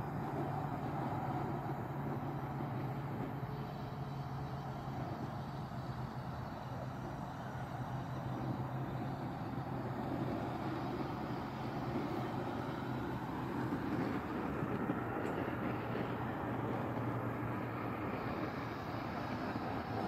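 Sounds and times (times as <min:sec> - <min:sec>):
gas burner flame rushing: 0:00.0 - 0:20.0.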